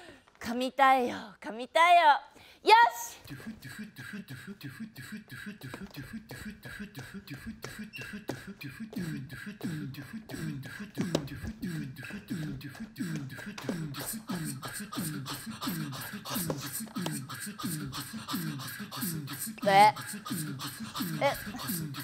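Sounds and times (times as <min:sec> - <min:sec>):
beatboxing into a microphone: 0:03.1 - 0:22.0.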